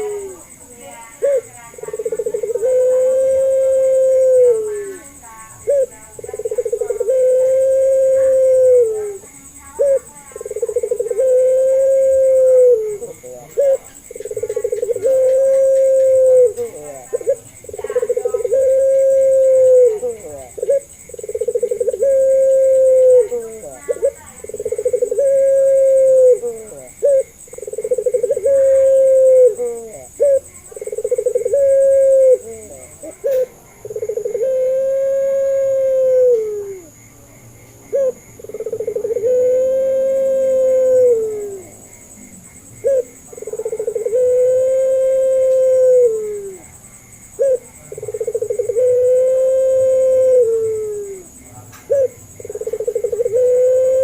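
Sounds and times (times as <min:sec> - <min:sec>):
dove cooing: 0:00.0 - 0:37.0, 0:37.9 - 0:54.0.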